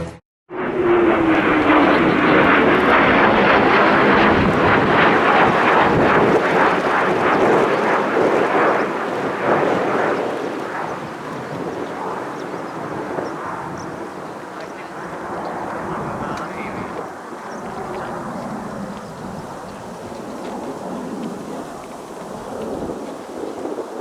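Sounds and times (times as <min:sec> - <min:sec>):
military jet roaring overhead: 0:00.0 - 0:24.0.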